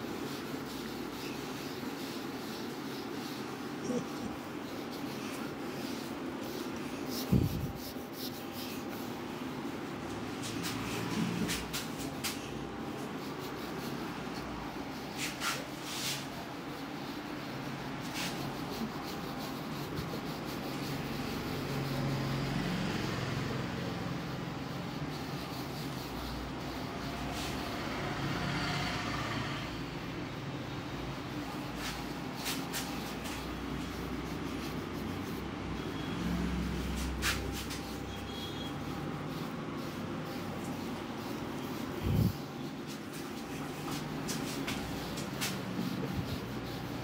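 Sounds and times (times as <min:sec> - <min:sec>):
brush rubbing on beard: 0:00.0 - 0:47.0.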